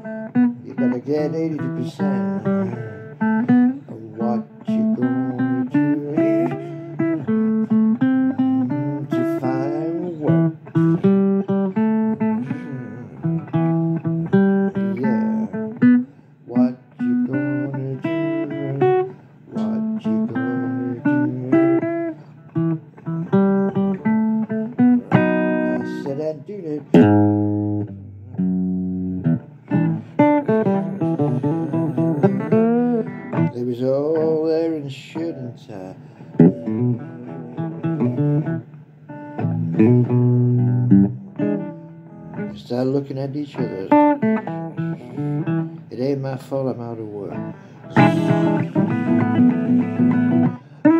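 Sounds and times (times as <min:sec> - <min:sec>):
person singing: 0:00.0 - 0:11.2, 0:12.2 - 0:28.6, 0:29.7 - 0:38.6, 0:39.4 - 0:41.8, 0:42.4 - 0:50.9
acoustic guitar blues: 0:00.0 - 0:50.9.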